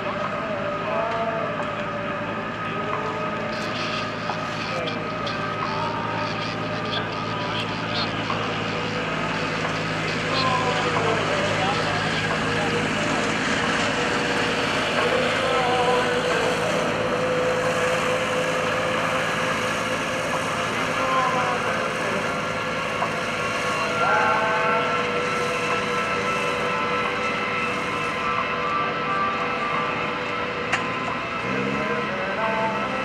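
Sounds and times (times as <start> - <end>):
jet engines whining: 0.0 - 33.0.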